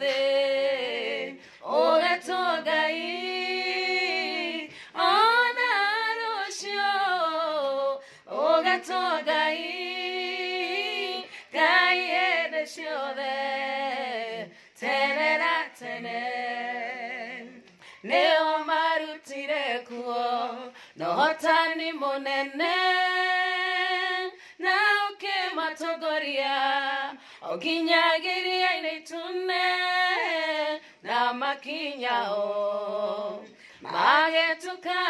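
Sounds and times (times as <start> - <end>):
two women singing unaccompanied: 0.0 - 35.0.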